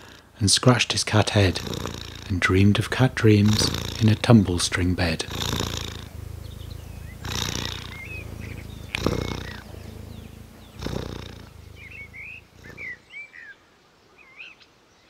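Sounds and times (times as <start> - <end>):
cat purring: 0.0 - 13.2
faint bird chirps: 1.4 - 15.0.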